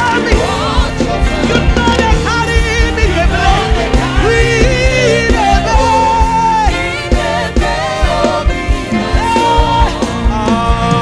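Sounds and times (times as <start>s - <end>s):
band with steady drum beat: 0.0s - 11.0s
voices singing sustained notes: 0.0s - 11.0s.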